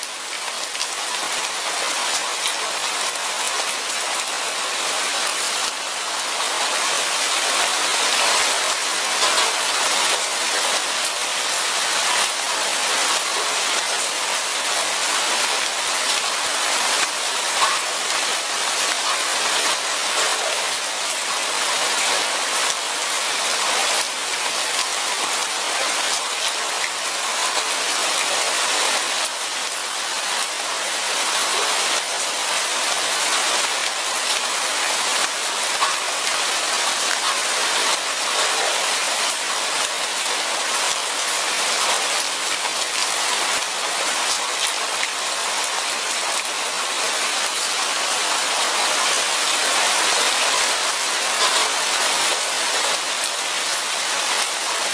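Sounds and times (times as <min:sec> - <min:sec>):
light rain pattering: 0:00.0 - 0:54.9.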